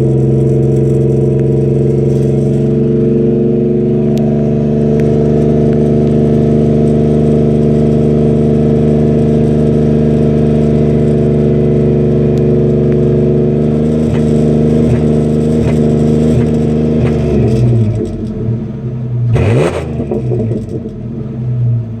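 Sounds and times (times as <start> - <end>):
truck exhaust drone: 0.0 - 22.0.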